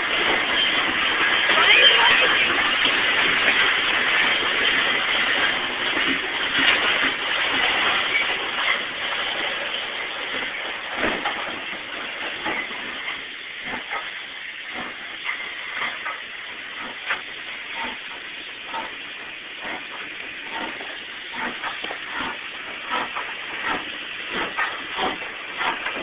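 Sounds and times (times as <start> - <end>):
steam train hiss: 0.0 - 26.0
train wheels clicking on rails: 0.0 - 26.0.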